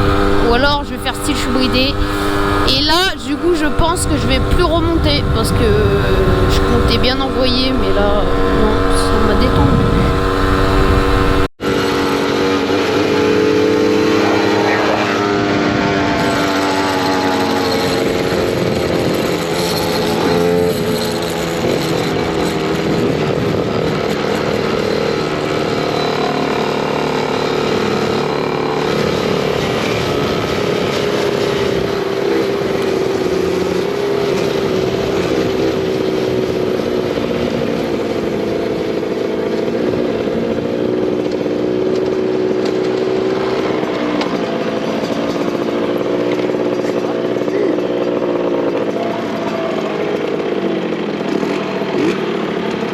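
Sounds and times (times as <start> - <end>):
small motorcycle engine running: 0.0 - 52.9
wind and road noise: 0.0 - 52.9.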